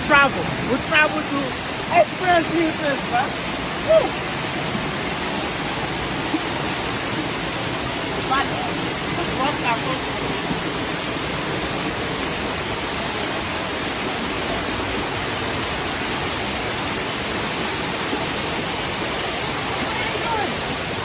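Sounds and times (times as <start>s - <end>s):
water cascading over rocks: 0.0s - 21.0s.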